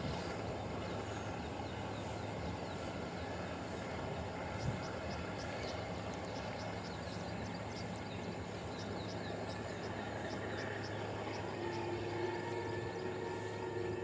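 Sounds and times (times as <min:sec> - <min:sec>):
diesel train engine humming: 0:00.0 - 0:14.0
higher steady drone: 0:00.0 - 0:14.0.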